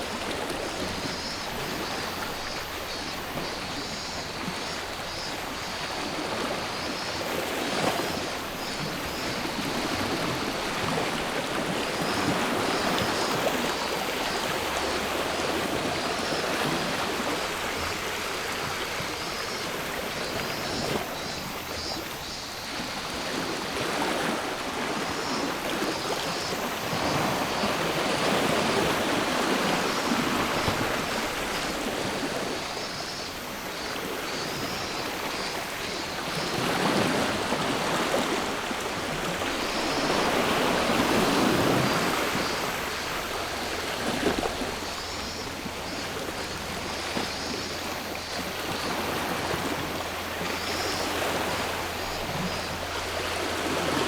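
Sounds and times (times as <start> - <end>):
faint cicadas buzzing: 0.0 - 54.0.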